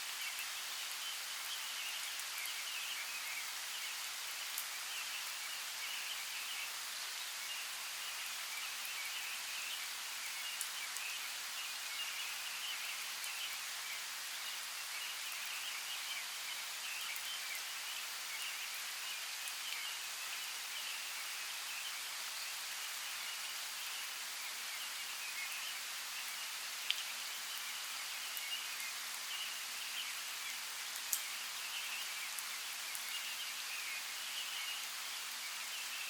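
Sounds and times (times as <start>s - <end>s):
light rain on leaves: 0.0s - 36.0s.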